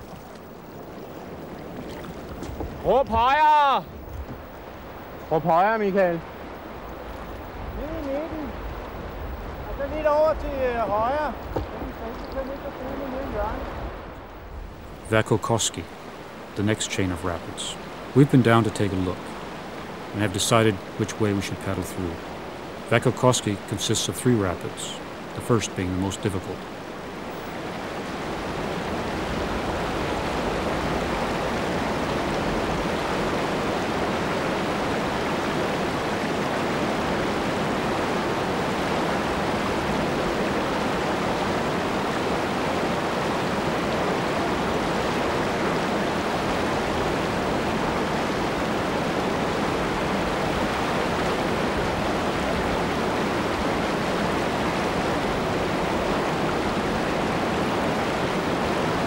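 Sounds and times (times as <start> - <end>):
river rapids rushing: 0.0 - 14.2, 14.8 - 59.0.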